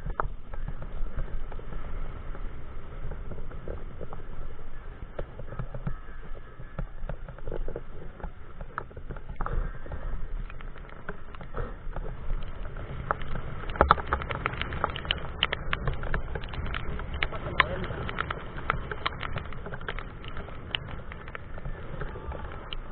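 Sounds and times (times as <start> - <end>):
bicycle rumble with clicks and rattles: 0.0 - 22.9
pouring rain: 0.0 - 22.9.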